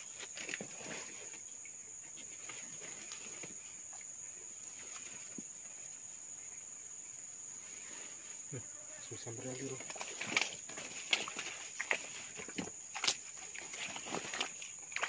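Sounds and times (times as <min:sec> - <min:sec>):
faint ticks and rustles: 0:00.0 - 0:15.0.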